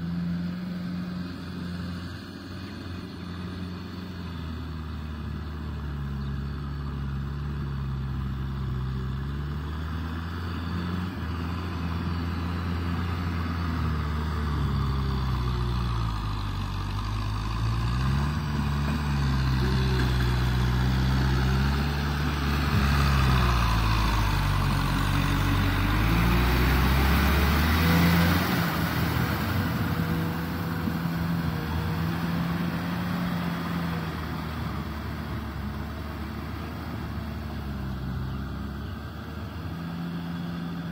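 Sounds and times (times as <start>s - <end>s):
rotavator tilling wet mud: 0.0s - 40.9s
tractor diesel engine under load: 0.0s - 40.9s.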